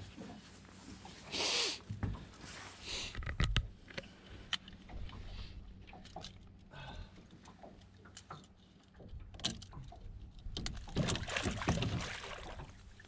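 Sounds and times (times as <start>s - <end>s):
water splashing against boat: 0.0s - 13.0s.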